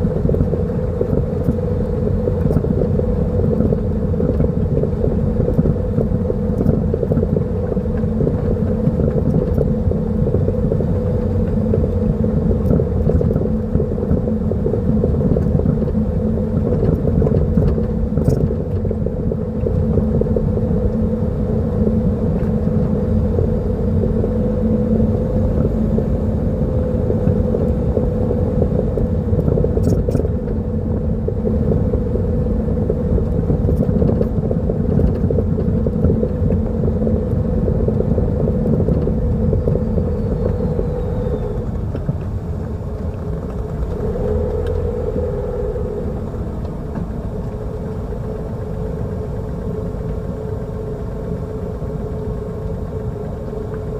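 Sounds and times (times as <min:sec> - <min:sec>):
car engine rumbling: 0:00.0 - 0:53.9.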